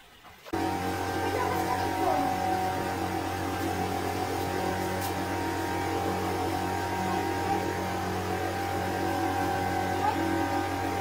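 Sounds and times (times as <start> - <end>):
steady low hum: 0.5 - 11.0.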